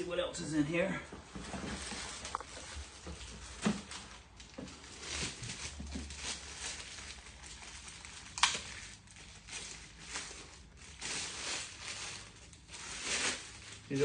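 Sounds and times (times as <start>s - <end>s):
packaging rustling: 1.4s - 14.0s.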